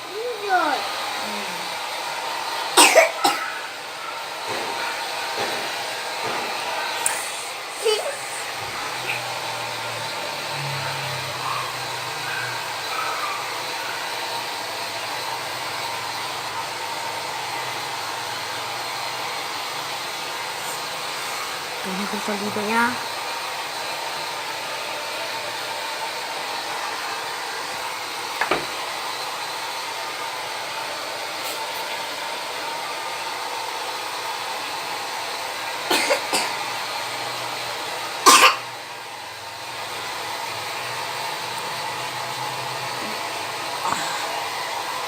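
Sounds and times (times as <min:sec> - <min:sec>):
hair dryer blowing: 0:00.0 - 0:45.0.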